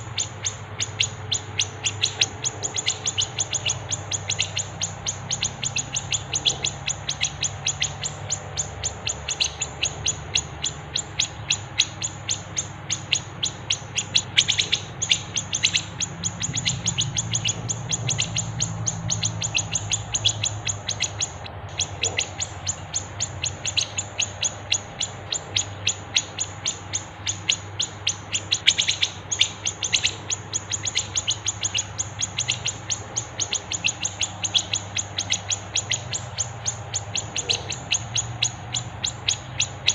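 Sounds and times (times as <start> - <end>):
faint low hum: 0.0 - 39.9
songbird chirping rapidly: 0.0 - 39.9.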